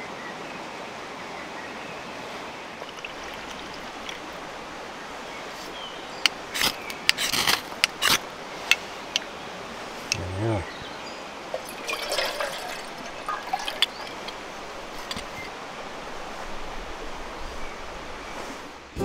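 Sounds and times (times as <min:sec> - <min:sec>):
rushing background noise: 0:02.1 - 0:19.0.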